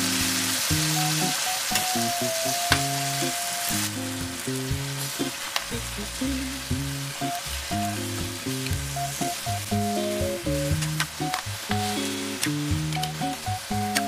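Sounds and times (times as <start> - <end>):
food sizzling in a wok: 0.0 - 14.0
light bouncy music: 0.0 - 14.0.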